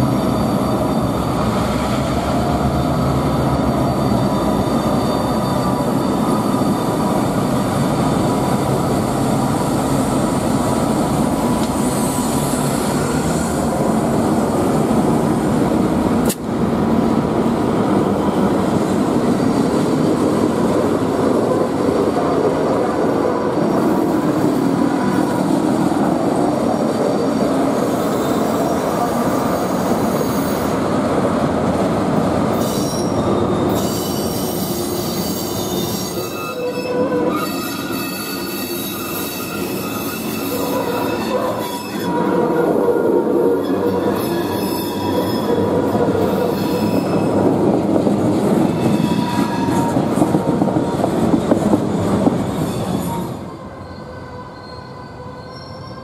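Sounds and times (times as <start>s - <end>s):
diesel locomotives running: 0.0s - 56.0s
train wheels on rails: 0.0s - 56.0s.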